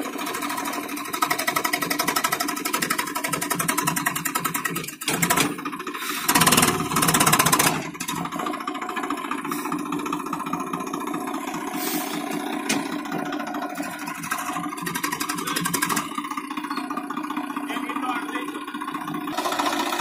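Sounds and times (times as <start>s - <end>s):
tractor diesel engine chugging: 0.0s - 20.0s.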